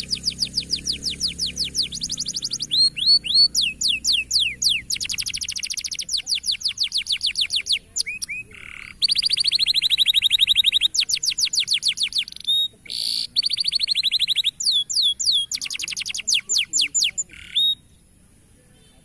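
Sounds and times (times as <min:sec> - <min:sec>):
canary singing trills: 0:00.0 - 0:18.2.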